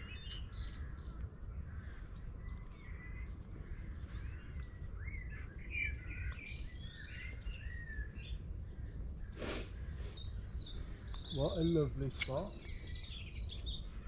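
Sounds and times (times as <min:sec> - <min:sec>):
songbirds singing and chirping: 0:00.0 - 0:14.0.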